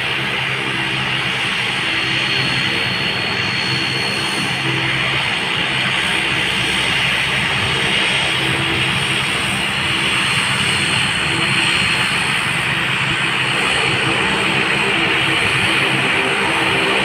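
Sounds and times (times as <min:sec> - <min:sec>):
airplane engines running: 0:00.0 - 0:17.0.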